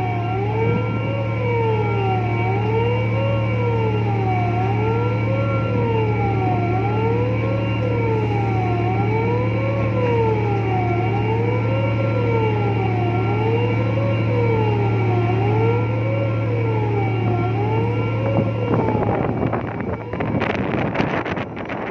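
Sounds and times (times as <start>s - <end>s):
low machinery hum: 0.0s - 21.9s
siren wailing: 0.0s - 21.9s.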